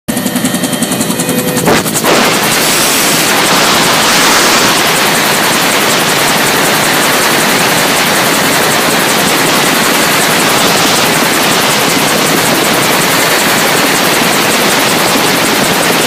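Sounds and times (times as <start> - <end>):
helicopter running: 0.1 - 16.0.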